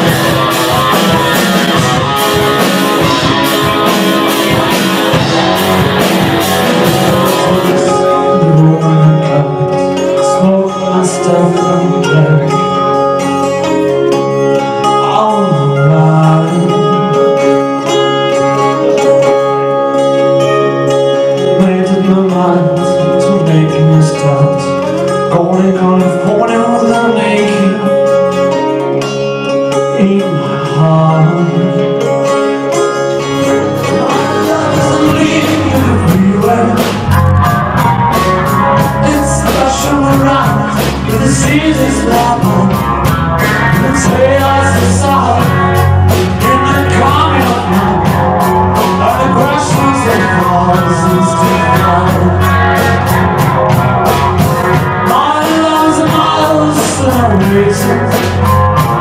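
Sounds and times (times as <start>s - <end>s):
acoustic guitars: 0.0s - 59.0s
bass guitar and drums: 0.0s - 59.0s
man singing: 0.0s - 59.0s.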